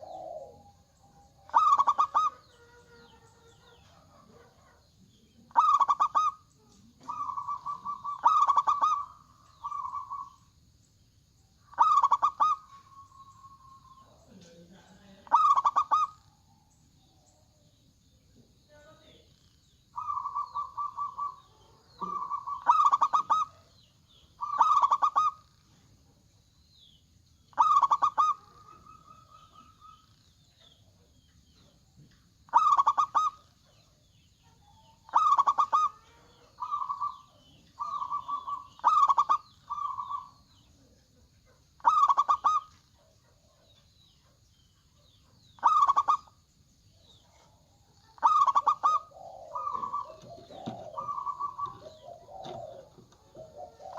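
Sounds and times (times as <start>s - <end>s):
doves cooing: 0.0s - 10.6s, 11.7s - 16.7s, 19.9s - 25.7s, 27.5s - 33.9s, 34.6s - 43.6s, 45.2s - 46.4s, 47.2s - 53.9s
faint high chirping: 0.0s - 53.9s.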